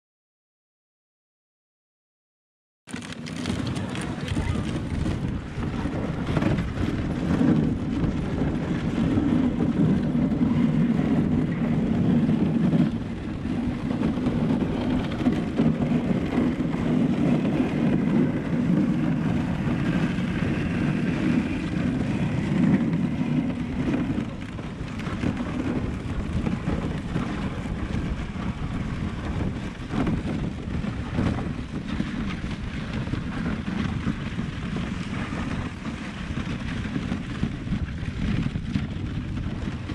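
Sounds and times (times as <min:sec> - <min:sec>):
dog sled gliding over snow: 0:02.9 - 0:39.9
wind buffeting microphone: 0:02.9 - 0:39.9.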